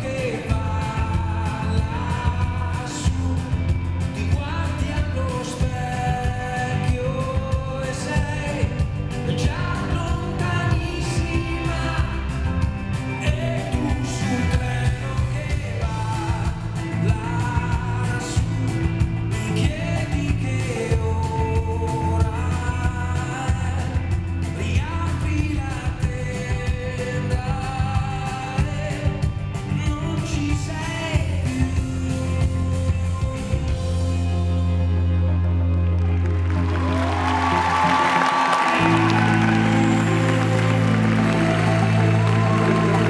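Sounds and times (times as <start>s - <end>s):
man singing: 0.0s - 35.1s, 37.5s - 43.0s
drums: 0.0s - 43.0s
electric guitar: 0.0s - 43.0s.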